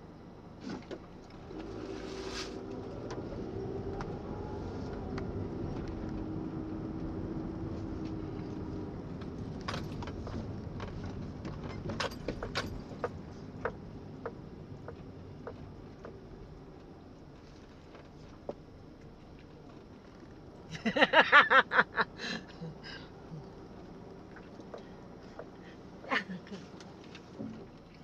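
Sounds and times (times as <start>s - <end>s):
car cabin rumble: 0.4s - 28.0s.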